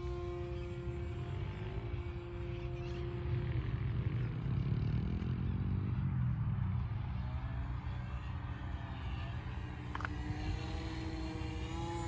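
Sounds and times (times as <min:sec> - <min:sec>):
model airplane motor and propeller: 0:00.0 - 0:12.0.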